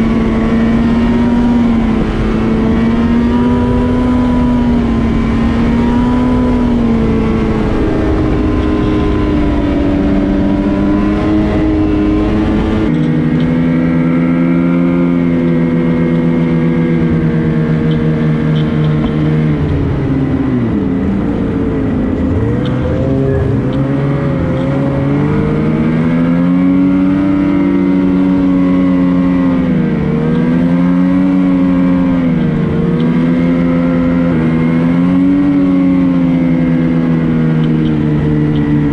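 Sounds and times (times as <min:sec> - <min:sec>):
heavy low rumble: 0:00.0 - 0:35.0
snowmobile engine running: 0:00.0 - 0:38.9.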